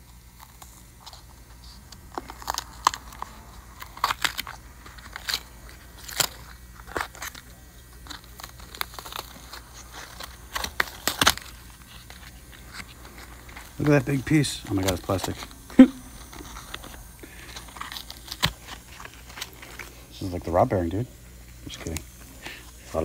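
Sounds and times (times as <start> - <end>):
paper filter pleats crackling: 0.0 - 20.8.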